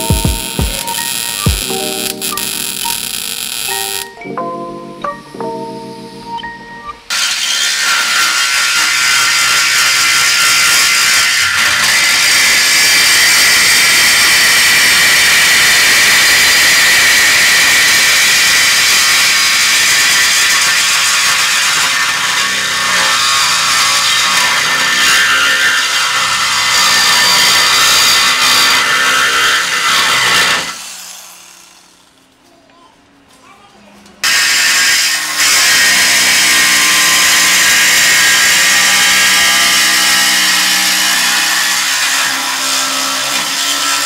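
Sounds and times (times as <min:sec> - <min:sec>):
power tool running under load: 0:00.0 - 0:04.1, 0:07.1 - 0:32.3, 0:34.2 - 0:44.0.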